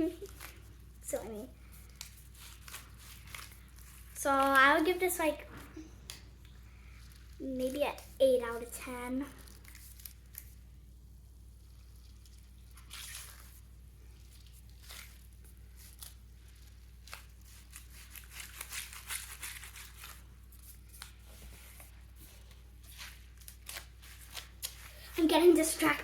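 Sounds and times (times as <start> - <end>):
stress ball squishing: 0.0 - 25.7.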